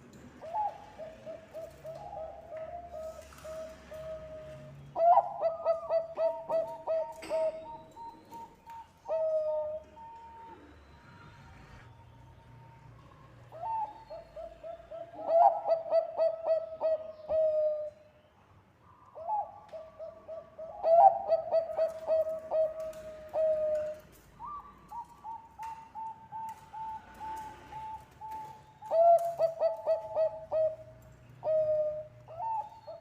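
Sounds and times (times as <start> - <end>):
dove cooing song: 0.0 - 11.9, 12.5 - 18.1, 19.1 - 33.0.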